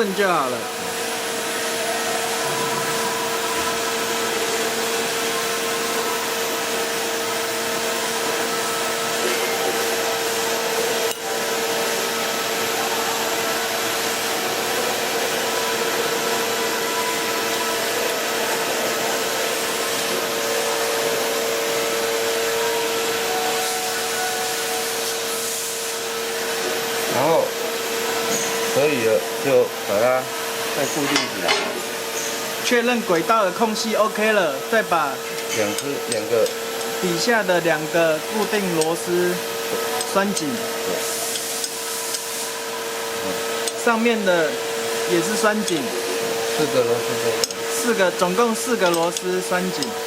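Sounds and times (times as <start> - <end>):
machine whirring with humming tone: 0.0 - 50.0.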